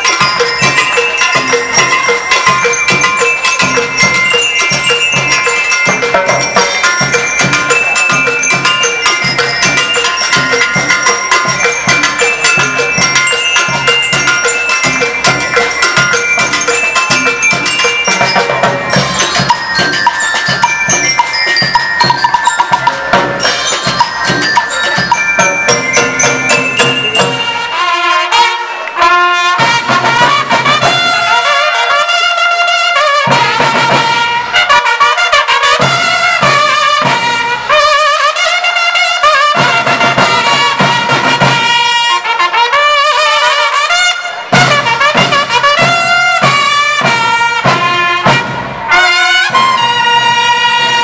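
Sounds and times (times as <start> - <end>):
drum section: 0.0 - 51.0
marching band playing: 0.0 - 51.0
trumpets and brass melody: 0.0 - 51.0.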